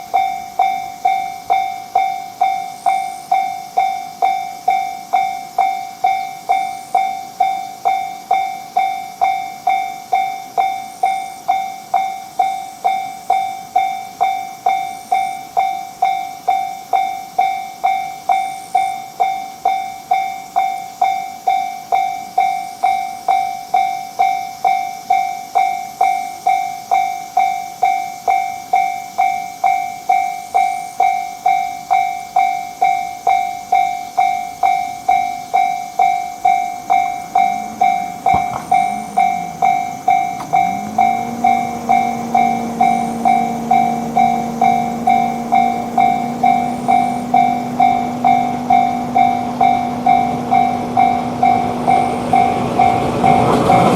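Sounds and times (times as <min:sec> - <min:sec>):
level crossing warning bell: 0:00.0 - 0:53.9.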